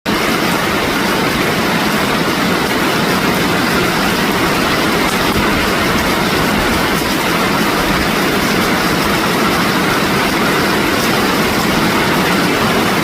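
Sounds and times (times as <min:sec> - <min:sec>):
heavy rain pouring: 0:00.1 - 0:13.0.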